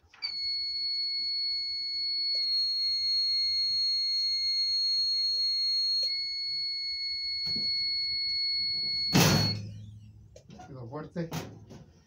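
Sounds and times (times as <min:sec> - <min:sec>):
high-pitched timer alarm tone: 0:00.0 - 0:10.0.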